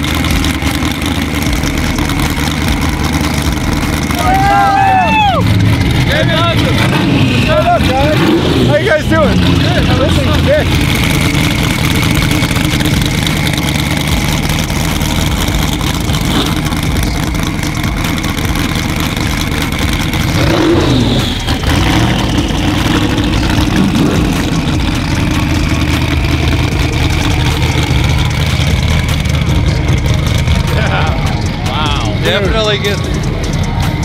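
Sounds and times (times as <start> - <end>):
car engines idling: 0.0 - 34.0
engine revving: 0.0 - 34.0.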